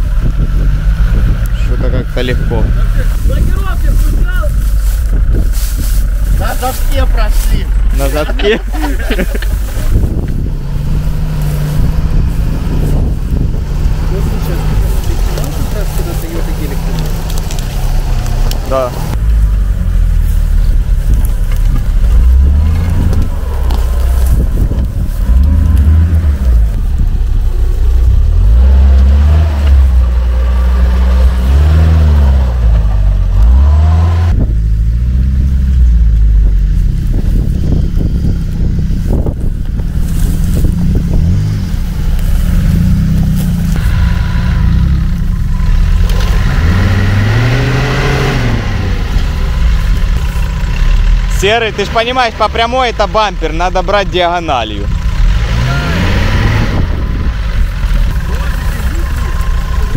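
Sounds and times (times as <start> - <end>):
suv engine rumbling under load: 0.0 - 59.9.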